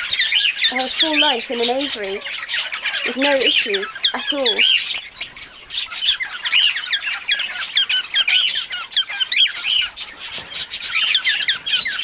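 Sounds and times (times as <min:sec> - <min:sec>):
parrots chattering: 0:00.0 - 0:12.0.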